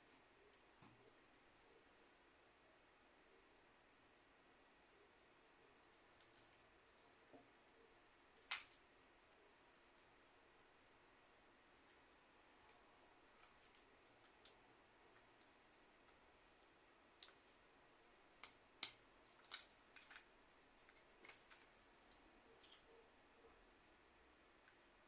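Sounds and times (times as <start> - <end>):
room hiss: 0.0 - 25.0.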